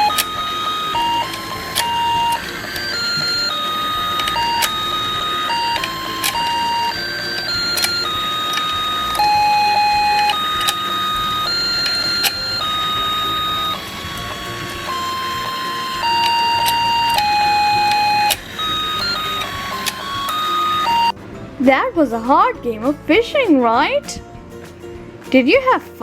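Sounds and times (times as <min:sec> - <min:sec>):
sharp clicks: 0:00.0 - 0:21.1
electronic beeping tune: 0:00.0 - 0:21.2.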